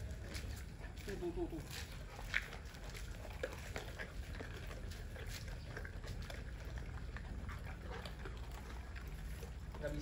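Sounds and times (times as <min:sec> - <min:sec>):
dogs chewing meat and bone: 0:00.0 - 0:10.0.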